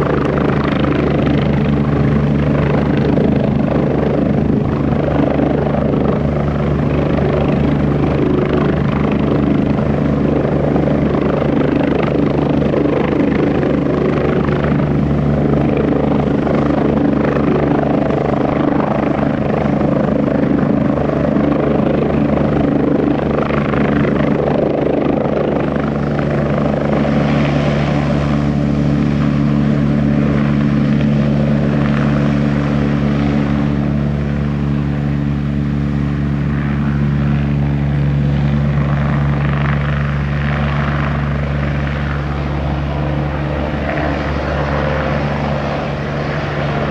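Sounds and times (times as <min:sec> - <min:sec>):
helicopter rotor beat: 0:00.0 - 0:46.9
helicopter turbine engines: 0:00.0 - 0:46.9.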